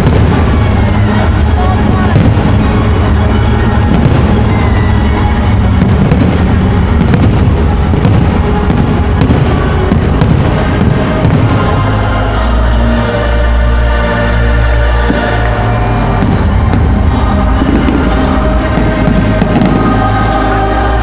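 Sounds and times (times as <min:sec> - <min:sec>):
fireworks bangs: 0:00.0 - 0:13.6, 0:14.7 - 0:21.0
loud music: 0:00.0 - 0:21.0.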